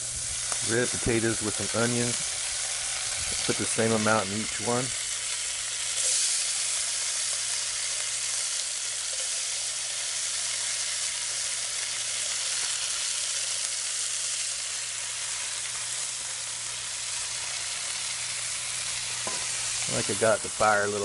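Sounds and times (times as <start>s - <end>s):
potatoes and onions sizzling in grease: 0.0s - 21.0s.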